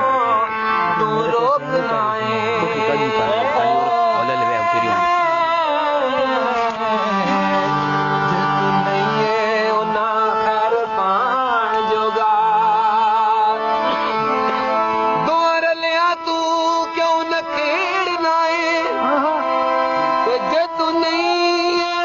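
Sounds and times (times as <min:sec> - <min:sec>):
sustained instrumental tones: 0:00.0 - 0:22.0
man singing folk song: 0:00.9 - 0:14.1, 0:15.2 - 0:19.5, 0:20.2 - 0:22.0.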